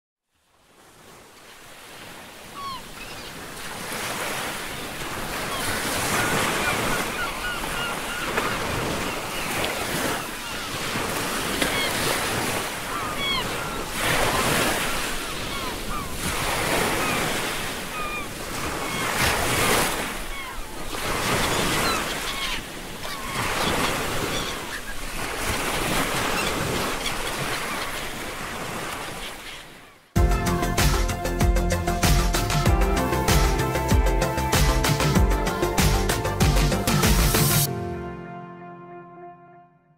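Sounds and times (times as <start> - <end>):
ocean surf washing: 0.6 - 38.3
seagulls calling: 2.4 - 37.7.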